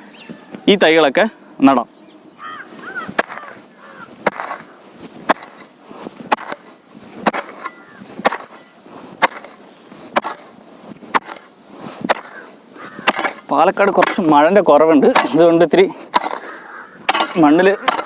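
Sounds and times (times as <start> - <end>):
faint birds chirping: 0.0 - 18.0
hoe chopping hard soil: 2.8 - 18.0.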